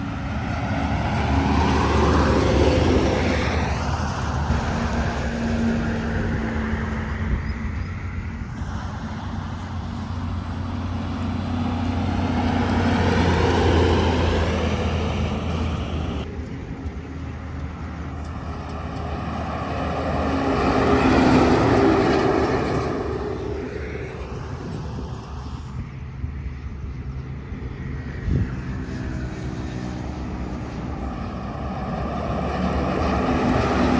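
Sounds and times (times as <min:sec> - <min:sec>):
diesel trucks driving past: 0:00.0 - 0:33.9.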